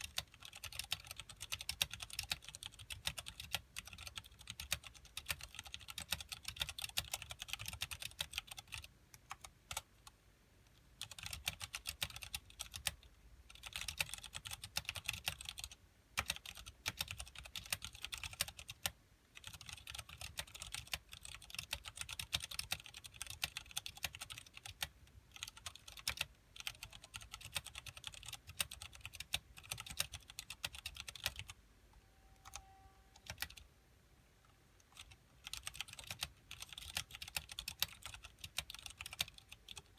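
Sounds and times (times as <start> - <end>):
mechanical keyboard typing: 0.0 - 9.9, 11.0 - 31.6, 32.4 - 33.6, 34.8 - 39.9.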